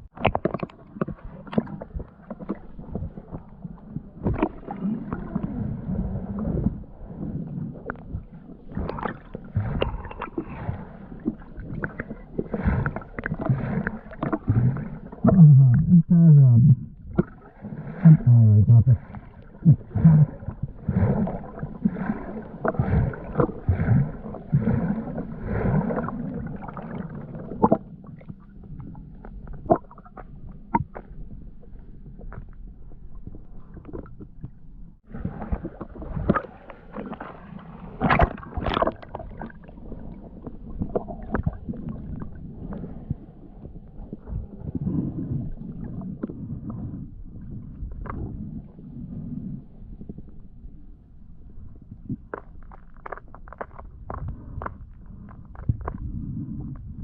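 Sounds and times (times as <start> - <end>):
underwater rumbling and gurgling: 0.0 - 57.0.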